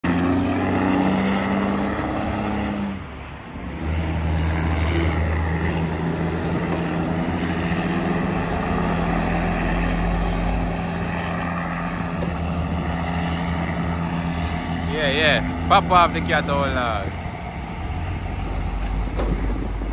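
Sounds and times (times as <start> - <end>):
diesel trucks climbing under load: 0.0 - 19.9.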